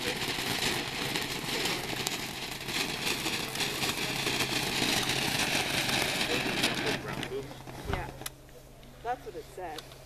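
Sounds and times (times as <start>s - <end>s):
firework fountain hissing and crackling: 0.0s - 10.0s.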